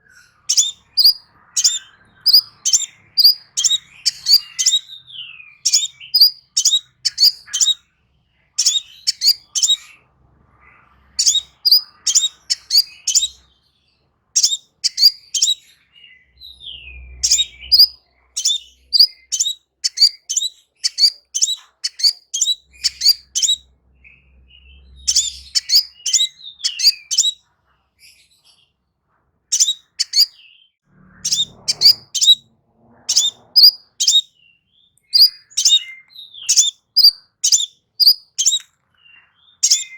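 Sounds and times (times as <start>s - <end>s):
bird singing high chirps: 0.1s - 7.9s, 8.5s - 13.8s, 14.4s - 27.4s, 29.5s - 32.4s, 33.1s - 39.9s.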